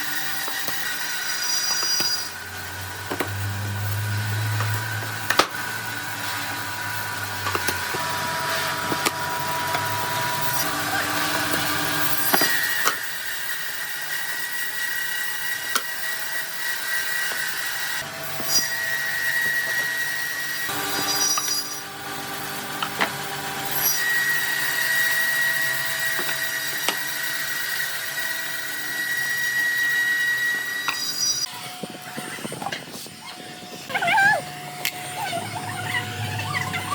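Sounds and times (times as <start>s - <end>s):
woodworking machine whining: 0.0s - 36.9s.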